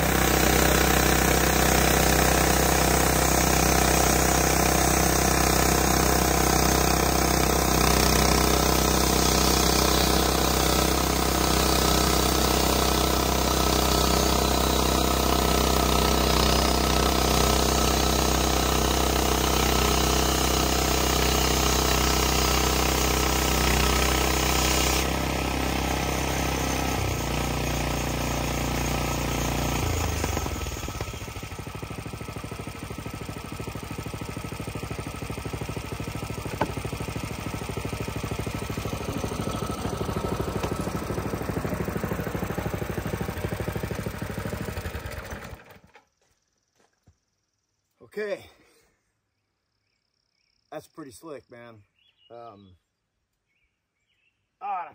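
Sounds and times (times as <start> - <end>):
band saw blade cutting log: 0.0 - 45.8
gas engine running: 0.0 - 46.0.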